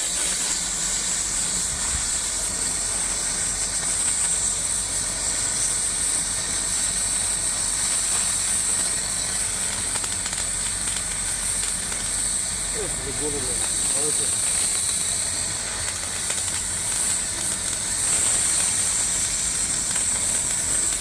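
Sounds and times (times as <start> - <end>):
low electrical hum: 0.0 - 21.0
steady loud hiss: 0.0 - 21.0.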